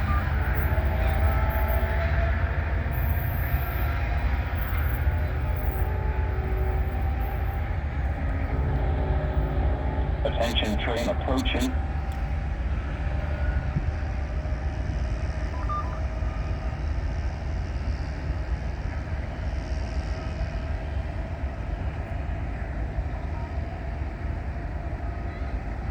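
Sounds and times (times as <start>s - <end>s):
diesel train rumbling: 0.0s - 25.9s.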